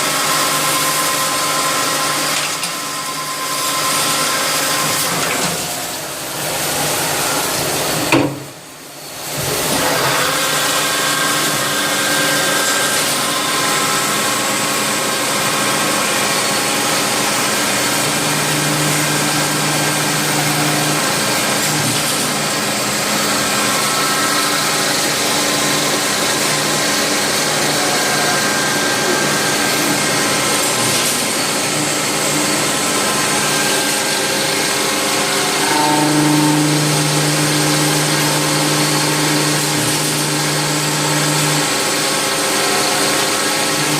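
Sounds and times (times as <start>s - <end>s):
lathe whirring: 0.0s - 43.9s.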